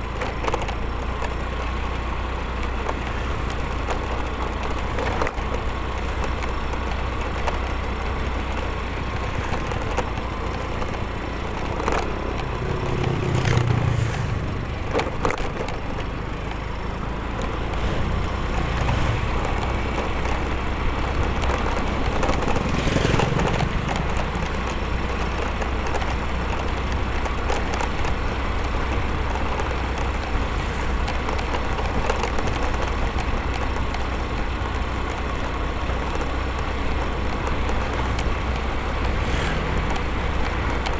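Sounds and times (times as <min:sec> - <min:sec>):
motorcycle engine and road noise: 0:00.0 - 0:40.9.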